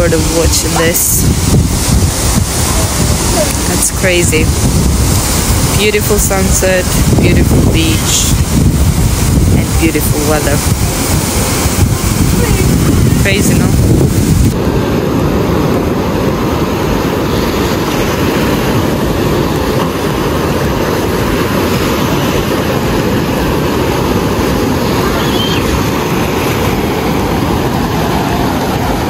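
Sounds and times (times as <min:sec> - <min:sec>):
waves breaking on beach: 0:00.0 - 0:29.0
wind rumble on microphone: 0:00.0 - 0:29.0.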